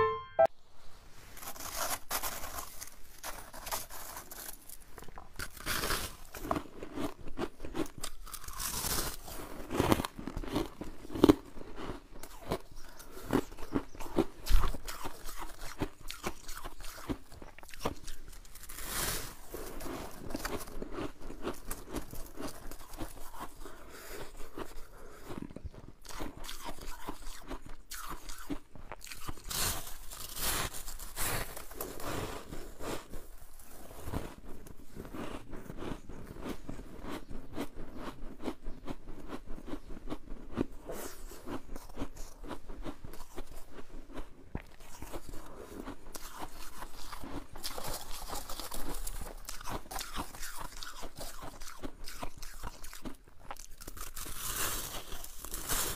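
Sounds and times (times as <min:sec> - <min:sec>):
chewing crunchy frost: 0:01.4 - 0:55.9.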